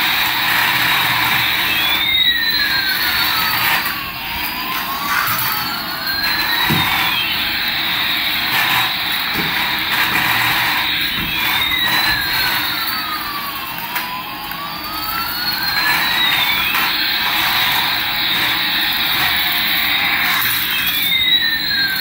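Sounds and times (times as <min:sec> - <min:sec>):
toy jet engine sound effect: 0:00.0 - 0:22.0.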